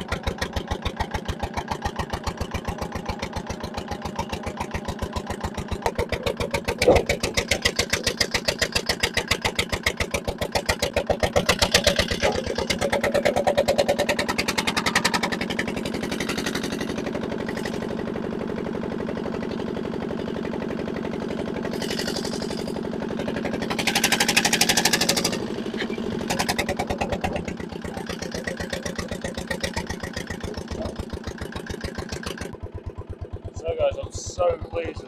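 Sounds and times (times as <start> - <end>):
diesel engine chugging: 0.0 - 35.0.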